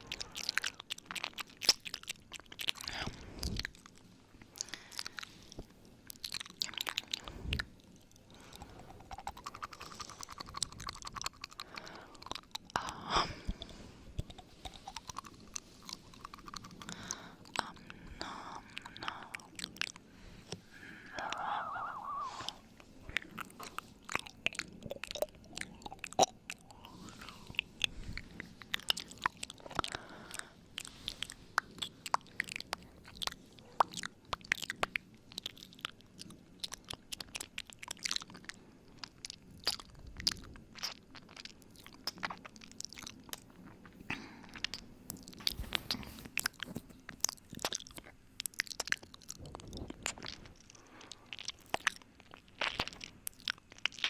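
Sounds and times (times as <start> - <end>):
mouth clicks and smacks: 0.0 - 54.0.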